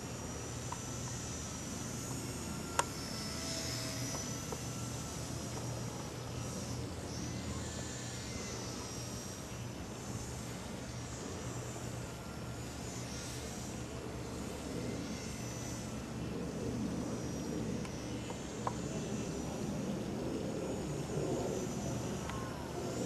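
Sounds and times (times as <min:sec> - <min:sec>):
model plane motor whine: 0:00.0 - 0:23.0.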